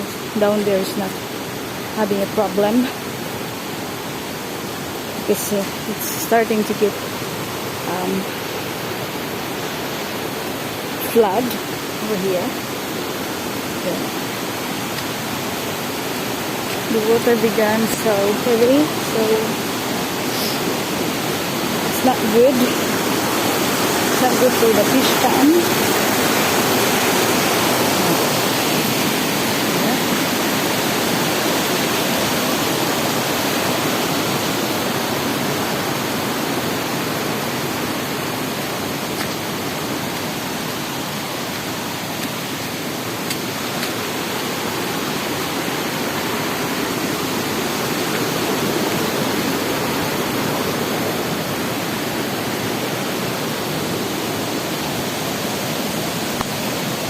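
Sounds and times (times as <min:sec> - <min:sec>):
heavy rain: 0:00.0 - 0:57.0
running floodwater: 0:00.0 - 0:57.0.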